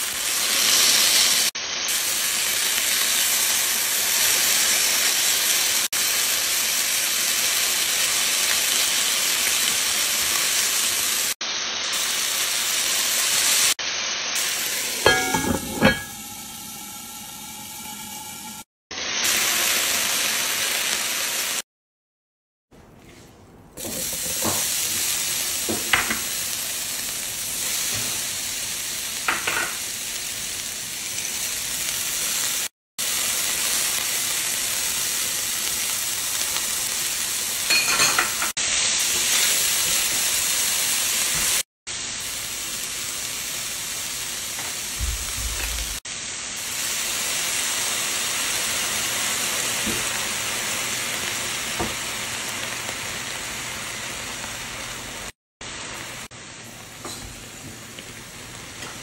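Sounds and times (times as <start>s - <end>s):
vegetables sizzling in hot oil: 0.0s - 21.6s, 23.8s - 59.0s.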